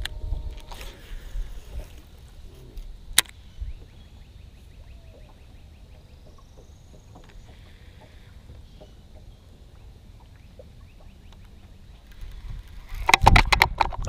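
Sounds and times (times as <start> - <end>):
birds calling: 0.7 - 13.1.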